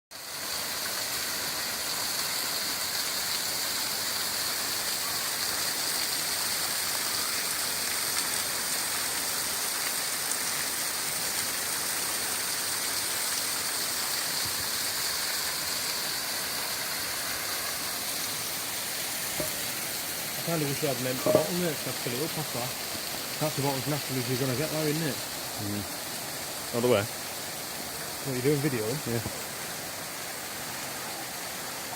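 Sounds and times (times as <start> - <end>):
waterfall rushing and splashing: 0.2 - 31.9.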